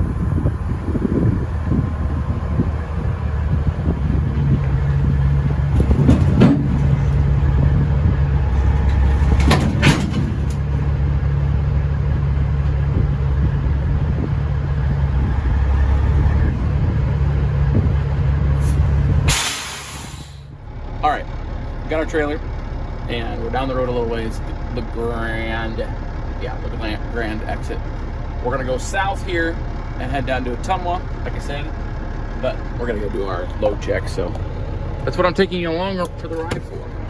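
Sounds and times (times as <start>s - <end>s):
diesel engine running at low revs: 0.0s - 37.0s.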